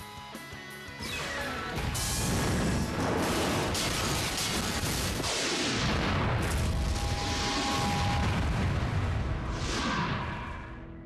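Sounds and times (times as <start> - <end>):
cartoon explosions: 1.0 - 10.8.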